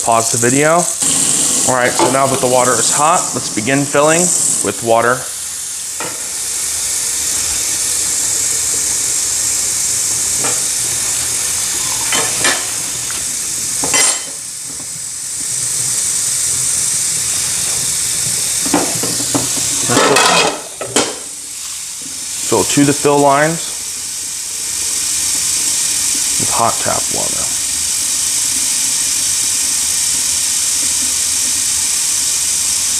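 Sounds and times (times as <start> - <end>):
tap water running into tank: 0.0 - 24.6, 25.3 - 32.9.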